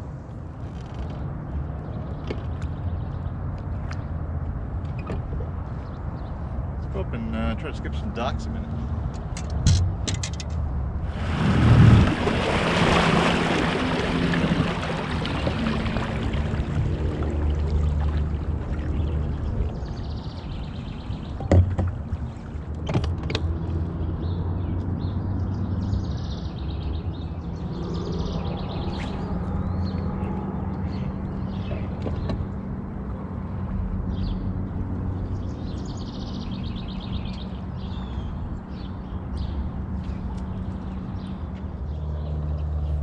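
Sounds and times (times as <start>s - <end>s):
songbirds chirping: 0.7s - 10.5s, 13.6s - 43.0s.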